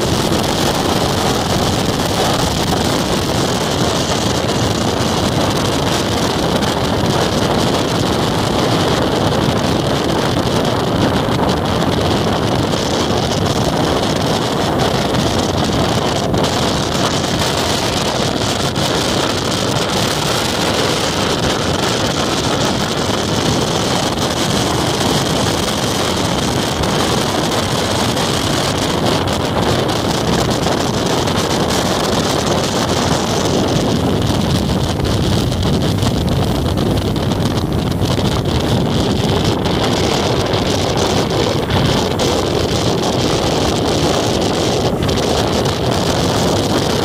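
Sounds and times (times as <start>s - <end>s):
motorcycle engine: 0.0s - 47.0s
road noise on wet pavement: 0.0s - 47.0s
wind rushing over microphone: 0.0s - 47.0s.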